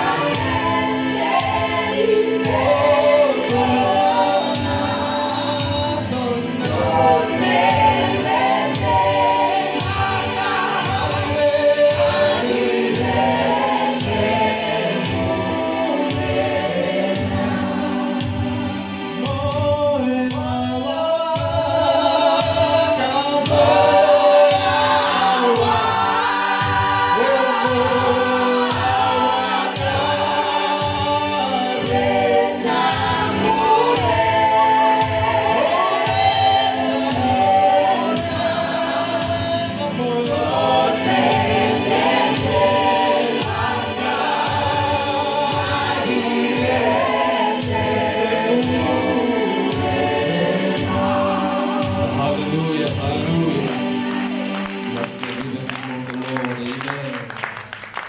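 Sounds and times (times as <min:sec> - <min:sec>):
steady beat: 0:00.0 - 0:55.6
choir singing gospel song: 0:00.0 - 0:58.0.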